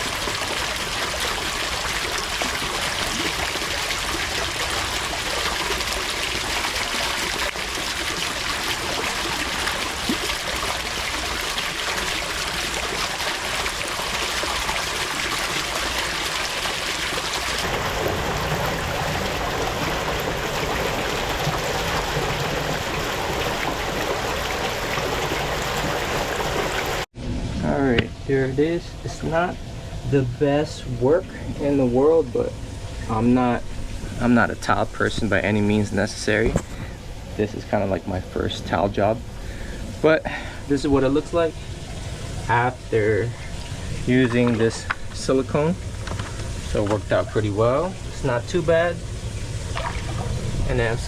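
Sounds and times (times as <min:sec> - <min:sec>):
running water: 0:00.0 - 0:27.1, 0:28.3 - 0:51.0.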